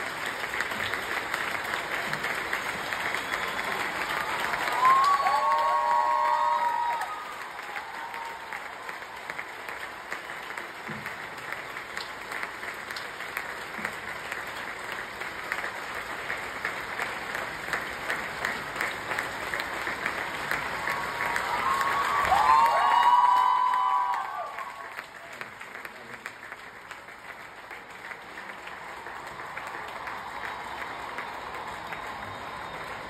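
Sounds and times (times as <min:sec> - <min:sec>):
crowd applauding: 0:00.0 - 0:33.0.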